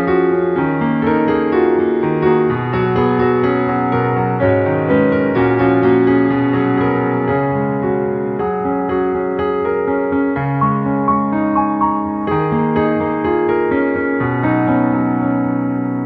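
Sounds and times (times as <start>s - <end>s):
piano playing held notes: 0.0s - 16.0s.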